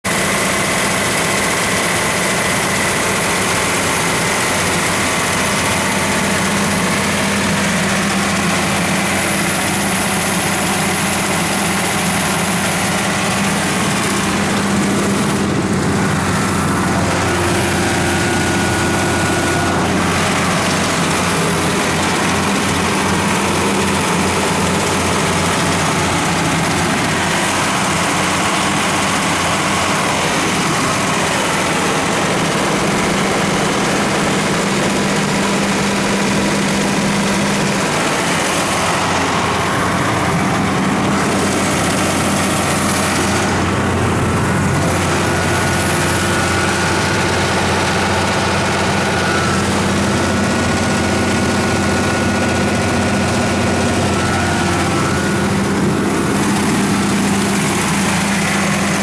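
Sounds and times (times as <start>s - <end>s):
diesel generator running: 0.0s - 59.0s.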